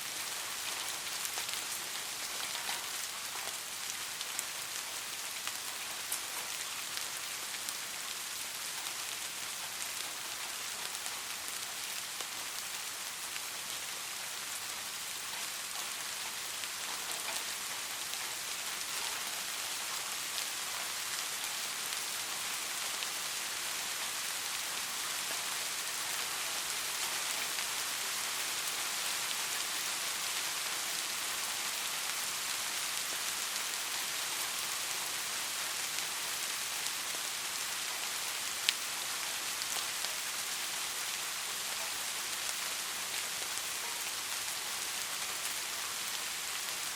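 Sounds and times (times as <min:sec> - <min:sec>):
soft rain patter: 0:00.0 - 0:46.9.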